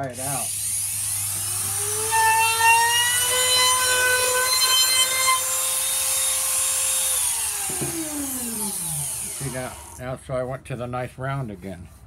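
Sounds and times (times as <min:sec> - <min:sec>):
router cutting wood: 0:00.0 - 0:10.0
trim router whining: 0:00.0 - 0:10.0.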